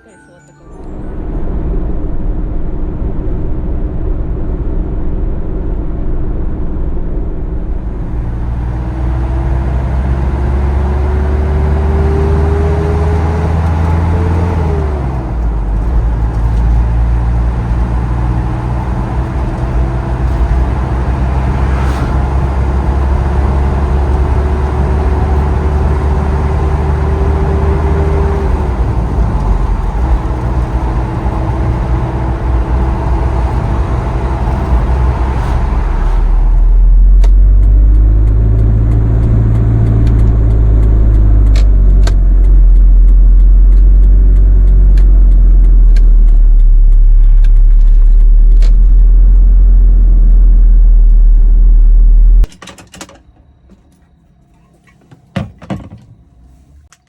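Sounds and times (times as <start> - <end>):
road noise: 0.0 - 57.0
car engine shifting gears: 6.0 - 52.6.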